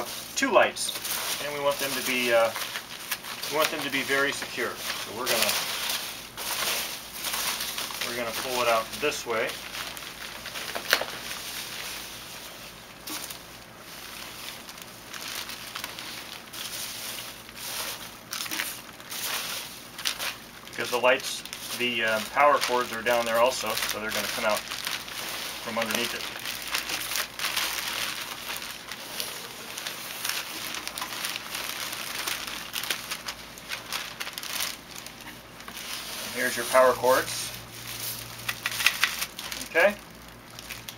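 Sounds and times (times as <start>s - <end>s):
foam packing peanuts rustling: 0.0s - 40.9s
plastic bag crinkling: 0.0s - 40.9s.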